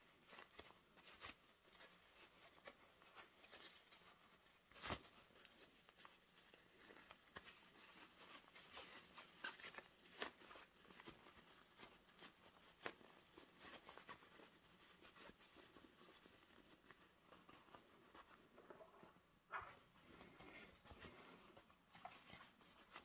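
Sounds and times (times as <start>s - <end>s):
fabric and sewing tools handled: 0.0s - 23.0s.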